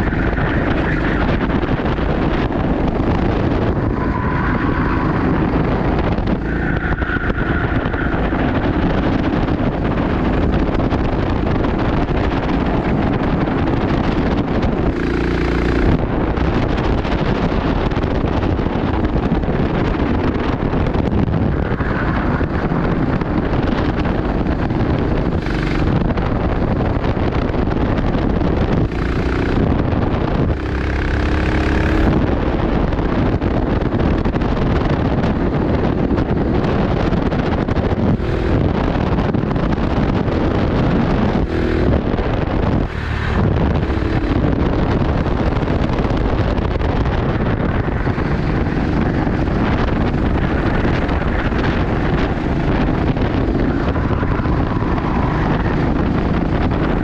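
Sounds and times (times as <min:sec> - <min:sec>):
kart engine running hard: 0:00.0 - 0:57.0
wind buffeting microphone: 0:00.0 - 0:57.0.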